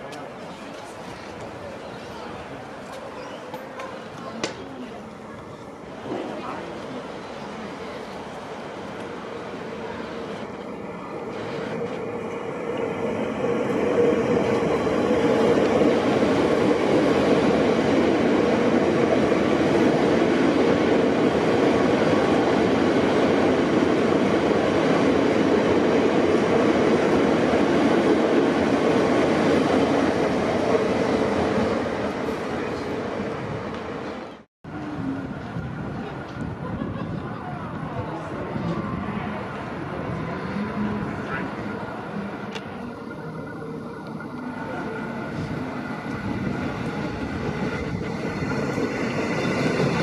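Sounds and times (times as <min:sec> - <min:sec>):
electric train running past: 0:00.0 - 0:50.0.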